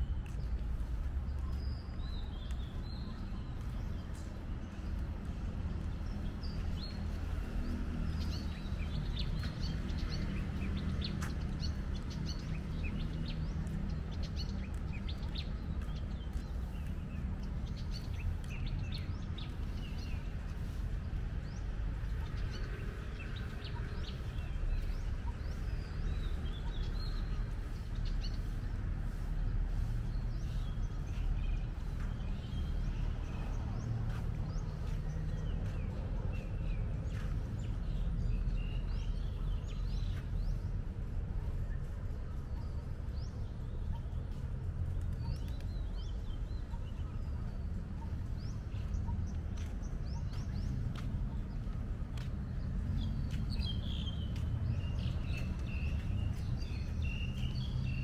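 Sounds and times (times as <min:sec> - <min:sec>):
low city rumble: 0:00.0 - 0:58.0
small birds chirping: 0:00.0 - 0:58.0.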